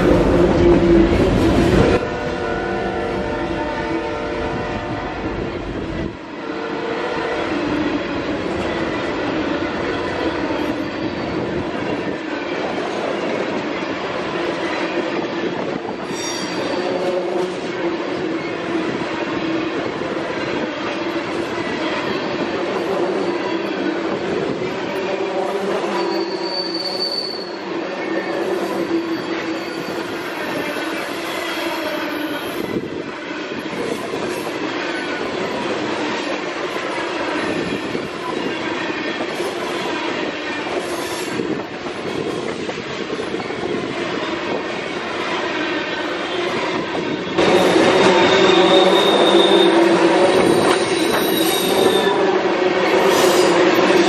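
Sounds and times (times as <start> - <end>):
freight train rolling past: 0.0 - 54.0
wheels squealing on rails: 6.4 - 54.0.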